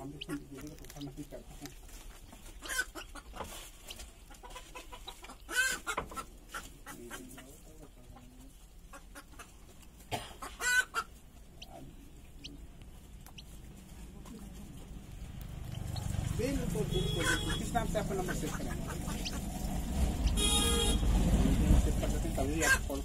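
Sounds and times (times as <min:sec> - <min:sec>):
chicken clucking: 0:00.0 - 0:23.0.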